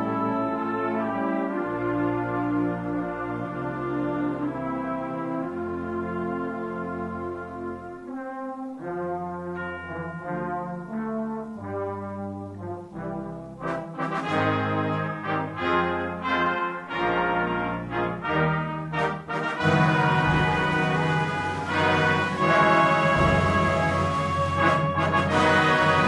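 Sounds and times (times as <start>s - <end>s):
brass band music: 0.0s - 26.0s.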